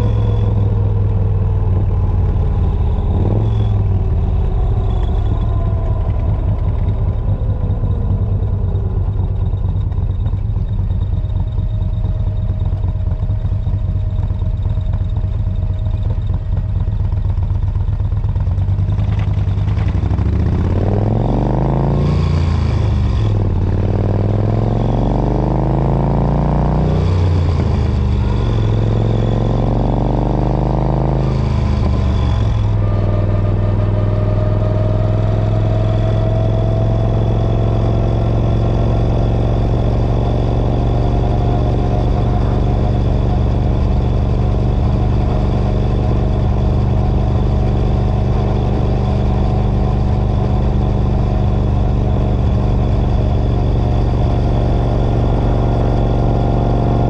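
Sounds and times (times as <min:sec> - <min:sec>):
v-twin engine running: 0:00.0 - 0:57.0.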